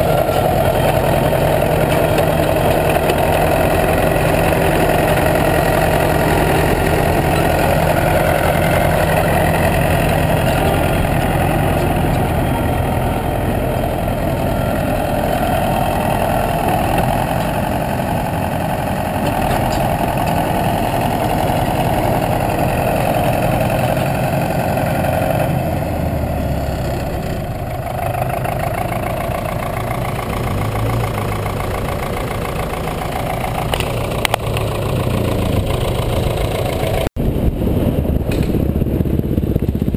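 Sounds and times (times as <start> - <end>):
bulldozer engine running: 0.0 - 39.9.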